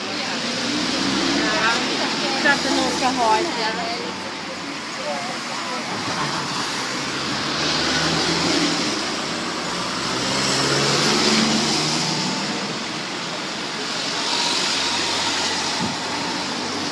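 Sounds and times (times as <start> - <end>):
cars driving past: 0.0 - 16.9.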